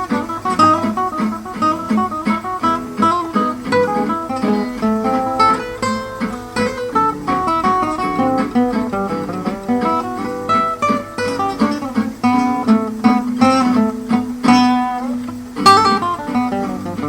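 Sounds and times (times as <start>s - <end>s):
acoustic guitar waltz: 0.0s - 17.0s.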